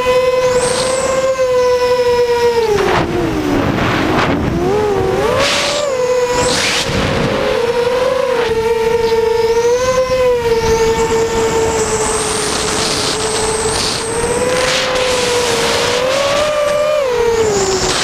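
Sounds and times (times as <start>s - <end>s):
quadcopter motors buzzing whine: 0.0s - 18.0s.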